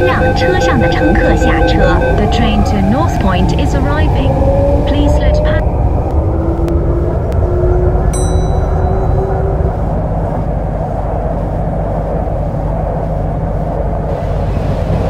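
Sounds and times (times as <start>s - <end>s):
train rumble with motor whine: 0.0s - 15.0s.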